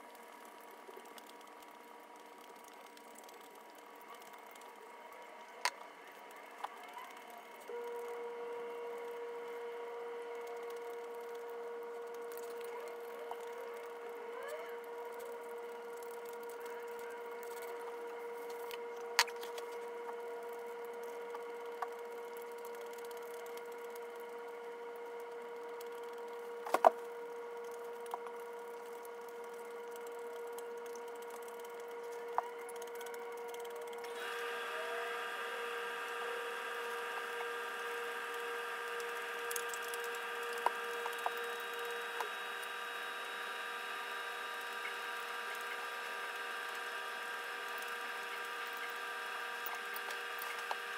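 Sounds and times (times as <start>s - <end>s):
steady background hum: 0.0s - 50.9s.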